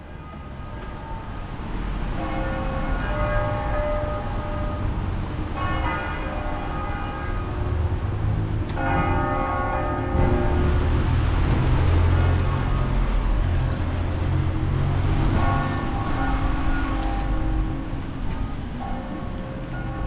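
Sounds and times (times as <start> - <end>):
church bells ringing: 0.0 - 20.0
low street traffic rumble: 0.0 - 20.0.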